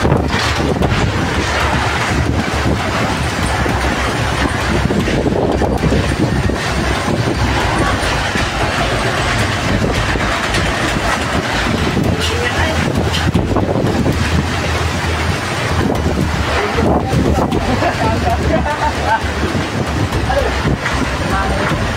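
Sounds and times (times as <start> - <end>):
rain: 0.0 - 21.9
storm wind buffeting microphone: 0.0 - 21.9.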